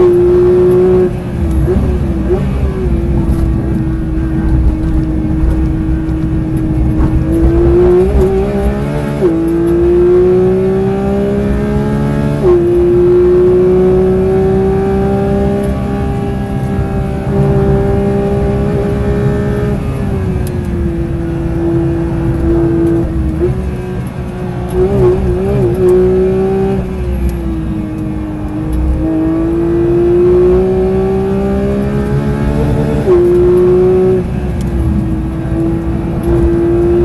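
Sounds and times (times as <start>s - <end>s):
car engine revving: 0.0s - 37.0s
gear upshifts: 0.0s - 37.0s.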